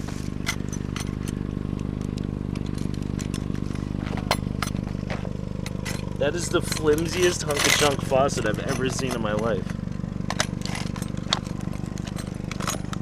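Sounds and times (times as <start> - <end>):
engine idling: 0.0 - 13.0
clicks and knocks of junk handled: 0.4 - 13.0.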